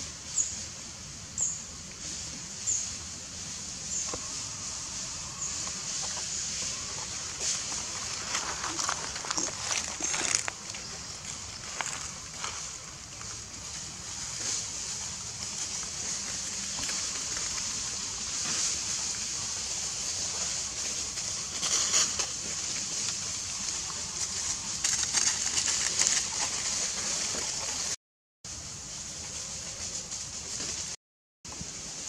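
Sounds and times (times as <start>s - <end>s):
steady high hiss: 0.0s - 32.0s
rustling of dry leaf litter: 0.1s - 32.0s.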